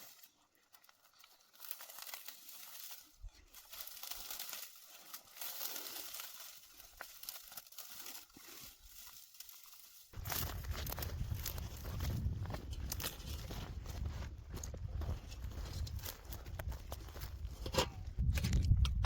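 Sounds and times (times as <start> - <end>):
dry vegetation rustling: 0.0 - 18.8.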